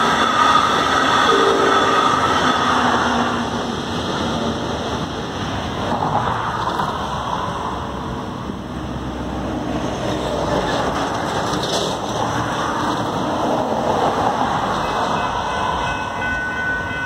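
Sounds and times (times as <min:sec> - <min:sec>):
cars driving across tracks: 0:00.0 - 0:17.0
passenger train rumbling: 0:00.0 - 0:17.0.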